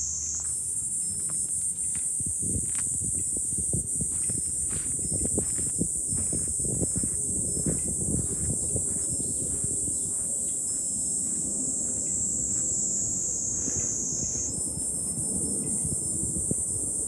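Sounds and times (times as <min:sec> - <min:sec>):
cicadas chorus: 0:00.0 - 0:17.0
wind rumbling on microphone: 0:00.4 - 0:17.0.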